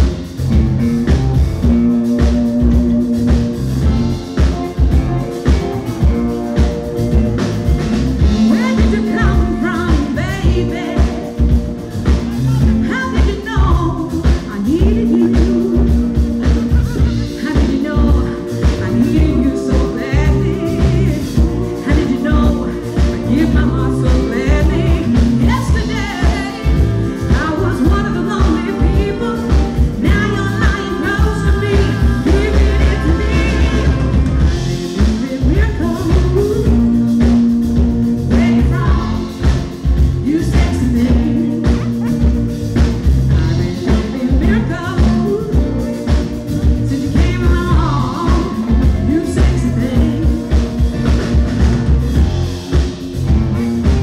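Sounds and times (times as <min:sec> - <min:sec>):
live band with female singer: 0:00.0 - 0:54.0.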